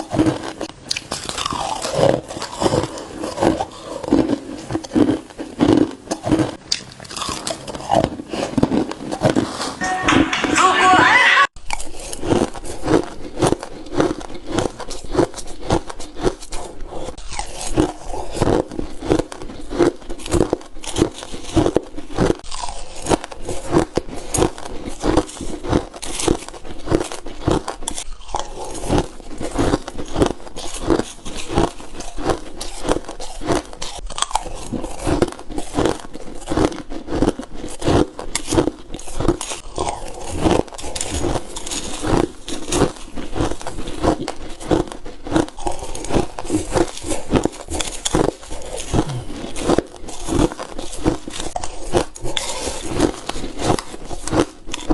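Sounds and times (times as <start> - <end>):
person crunching ice: 0.0 - 9.8, 11.6 - 54.9.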